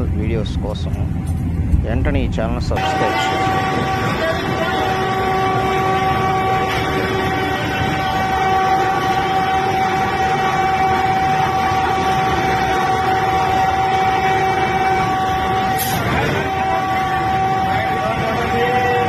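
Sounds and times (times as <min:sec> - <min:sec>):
constant high whine: 0:00.0 - 0:19.0
train rushing rumble: 0:00.0 - 0:19.0.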